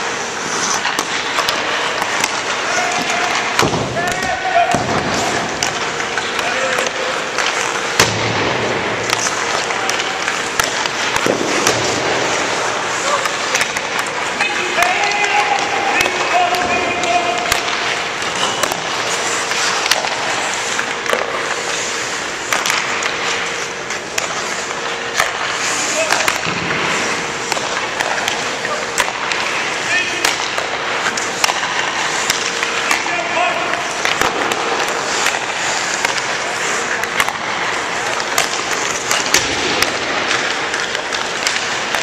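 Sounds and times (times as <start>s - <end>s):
skates scraping on ice: 0.0s - 42.0s
sticks striking pucks: 0.0s - 42.0s.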